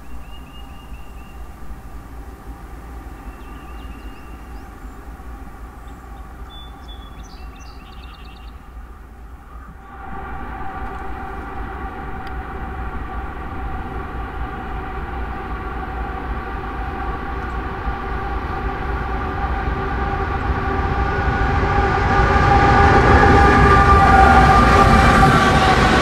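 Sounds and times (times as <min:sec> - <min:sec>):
diesel locomotive engines rumbling: 0:00.0 - 0:26.0
steady whine: 0:00.0 - 0:26.0.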